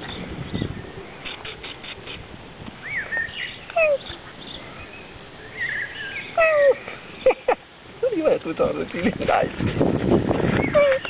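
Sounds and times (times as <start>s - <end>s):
small birds chirping: 0.0s - 2.2s, 2.8s - 9.0s, 10.4s - 11.0s.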